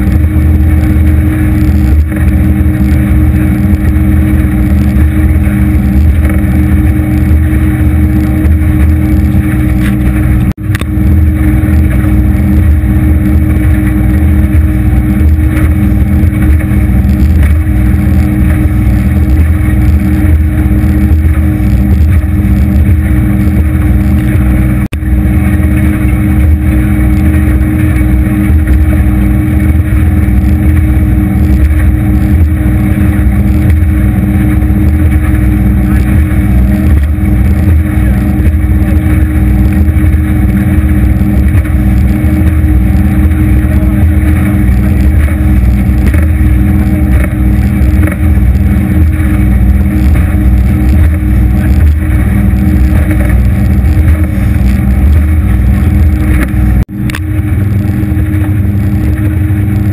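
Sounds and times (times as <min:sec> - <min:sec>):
outboard motor running: 0:00.0 - 0:59.9
water rushing: 0:00.0 - 0:59.9
wind: 0:00.0 - 0:59.9.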